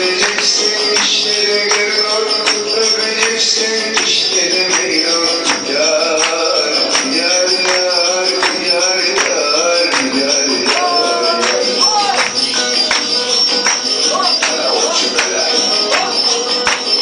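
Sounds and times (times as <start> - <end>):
dance music with steady beat: 0.0 - 17.0.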